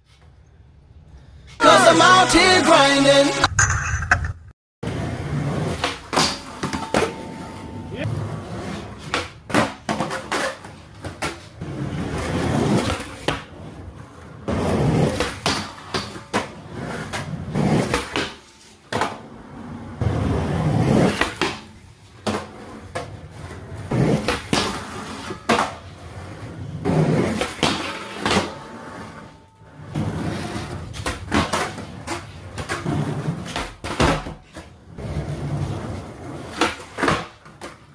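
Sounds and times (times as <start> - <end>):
skateboard wheels rolling on concrete: 4.8 - 37.9
skateboard clacks and knocks: 5.6 - 19.3, 20.0 - 37.9.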